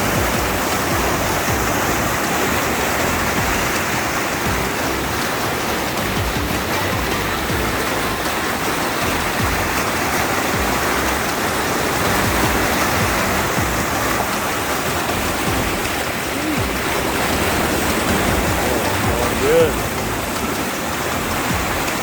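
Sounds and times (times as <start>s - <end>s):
floodwater rushing down a creek: 0.0s - 22.0s.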